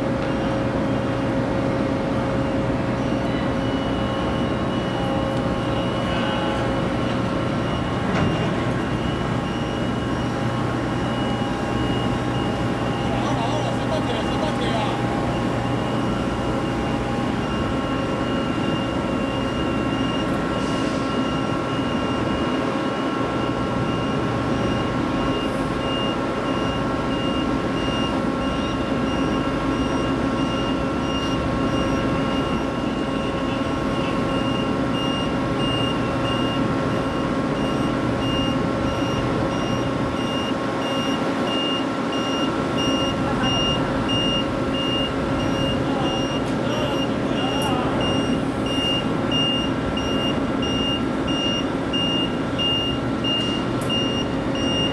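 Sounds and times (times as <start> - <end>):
crane machinery humming drone: 0.0 - 54.9
high-pitched warning beeper: 3.1 - 54.9.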